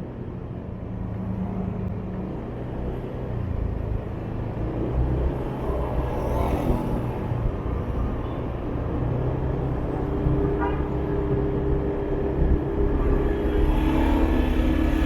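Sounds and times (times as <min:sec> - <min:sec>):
road rumble: 0:00.0 - 0:15.0
surrounding traffic: 0:00.0 - 0:15.0.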